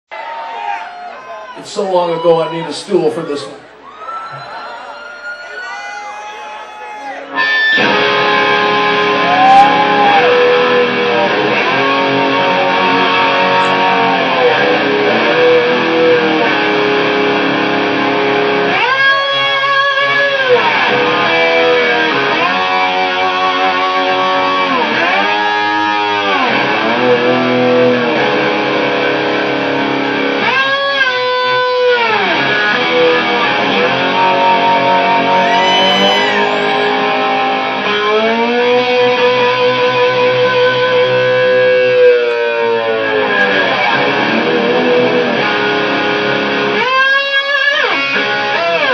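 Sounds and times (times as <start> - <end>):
slide electric guitar glides: 7.2 - 48.9.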